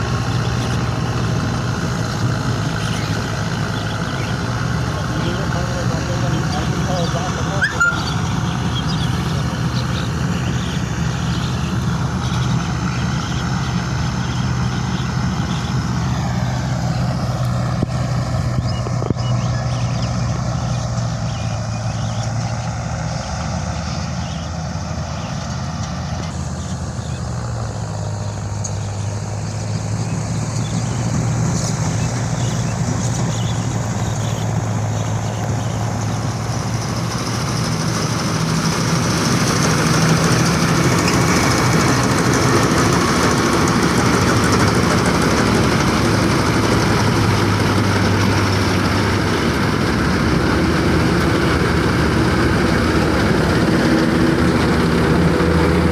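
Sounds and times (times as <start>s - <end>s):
heavy diesel engine under load: 0.0s - 55.9s.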